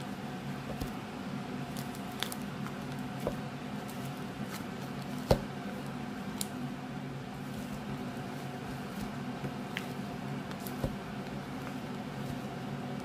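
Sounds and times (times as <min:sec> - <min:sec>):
steady low hum: 0:00.0 - 0:13.0
slime squishing: 0:00.5 - 0:06.6, 0:07.3 - 0:13.0.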